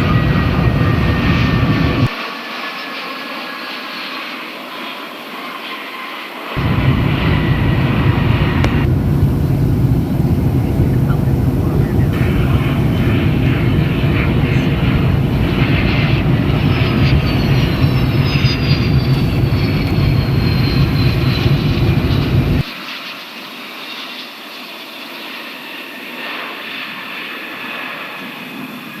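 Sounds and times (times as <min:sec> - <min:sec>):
jet engines rumbling: 0:00.0 - 0:29.0
jet engines whining: 0:00.0 - 0:29.0.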